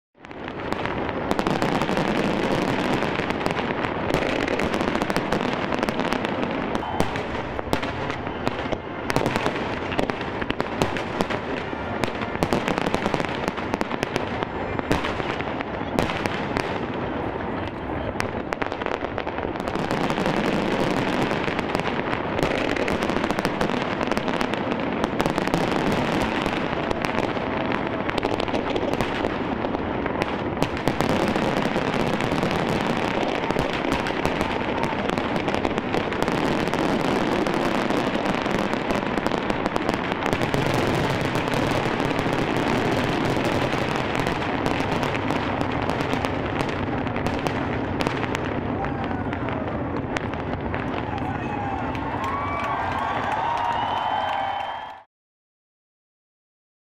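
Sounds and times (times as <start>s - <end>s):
fireworks bangs and crackling: 0.2s - 55.0s.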